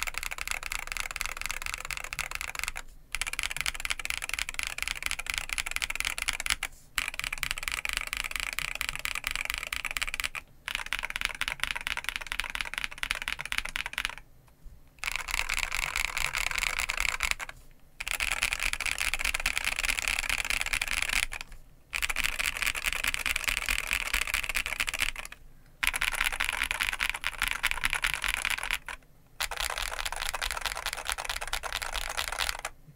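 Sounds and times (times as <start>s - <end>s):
fast typing on mechanical keyboard: 0.0s - 14.2s, 15.0s - 32.8s.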